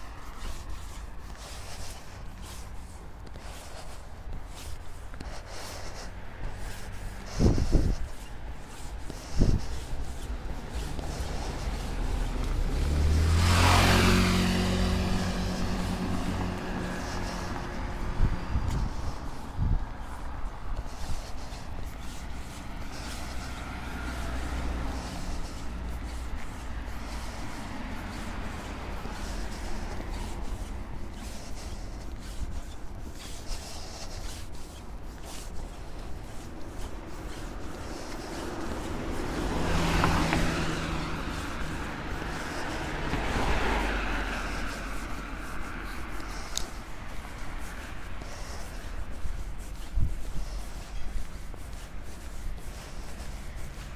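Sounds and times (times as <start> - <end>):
cars passing on street: 0.0 - 53.9.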